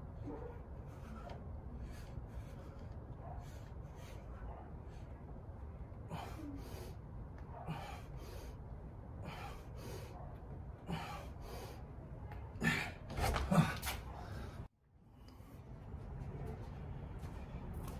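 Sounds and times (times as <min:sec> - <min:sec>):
man breathing hard: 0:00.6 - 0:12.0, 0:12.6 - 0:15.8.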